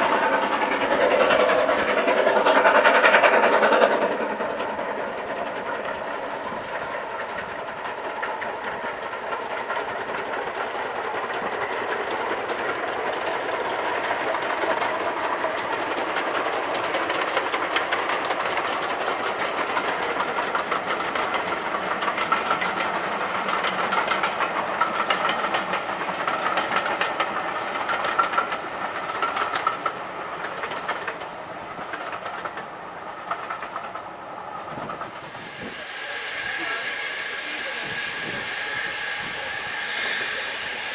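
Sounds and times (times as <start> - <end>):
steady rush of train noise: 0.0 - 40.9
wheels clicking over rail joints: 0.0 - 40.9.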